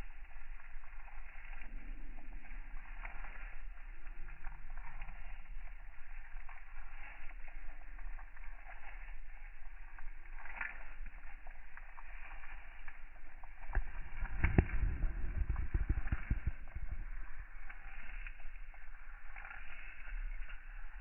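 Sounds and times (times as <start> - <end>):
rabbit chewing leaves: 0.0 - 21.0.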